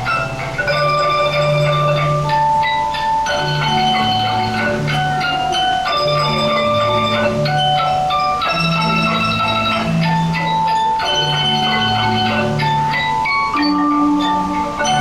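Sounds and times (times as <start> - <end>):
live instrumental music: 0.0 - 15.0.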